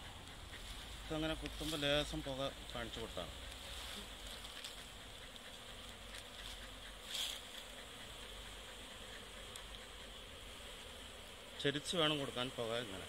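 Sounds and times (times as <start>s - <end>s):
bees buzzing: 0.0s - 13.0s
smoker hiss: 0.0s - 13.0s.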